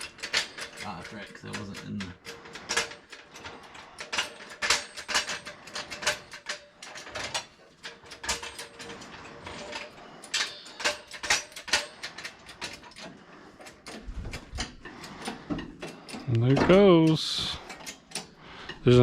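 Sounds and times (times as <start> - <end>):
mechanical clicking and clatter: 0.0 - 19.0.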